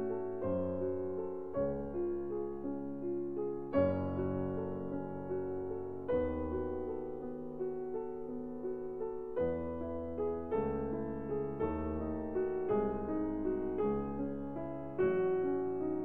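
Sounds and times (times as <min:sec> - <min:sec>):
soft slow piano music: 0:00.0 - 0:16.0.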